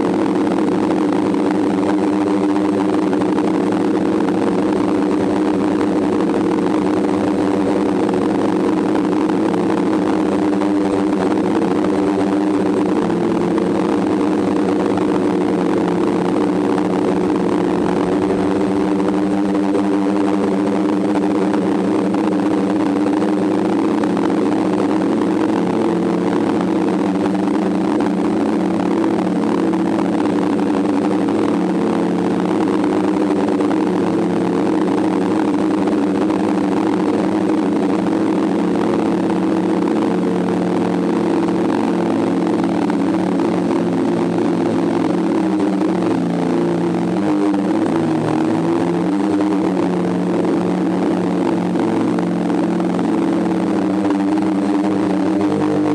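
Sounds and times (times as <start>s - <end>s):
drone motors humming: 0.0s - 55.9s.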